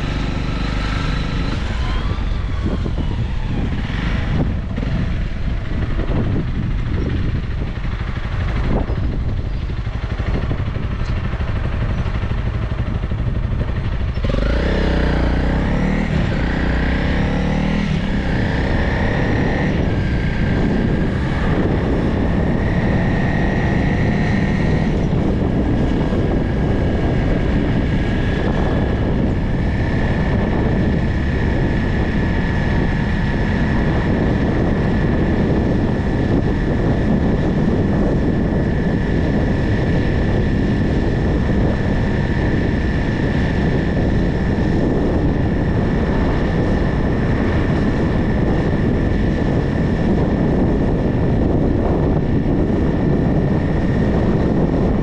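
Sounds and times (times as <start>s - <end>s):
road and wind rush: 0.0s - 55.0s
steady high whine: 0.0s - 55.0s
vehicle engine drone: 0.0s - 55.0s.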